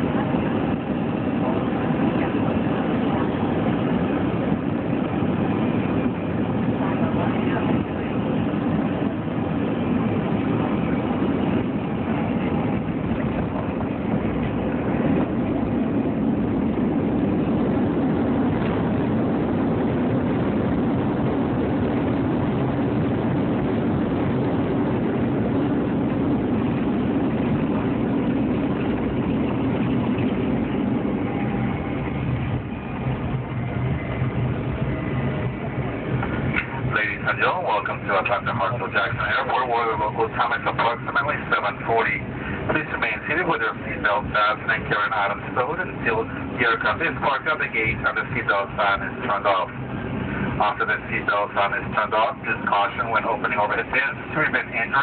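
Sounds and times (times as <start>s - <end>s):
air rushing in cabin: 0.0s - 55.0s
jet engines rumbling: 0.0s - 55.0s.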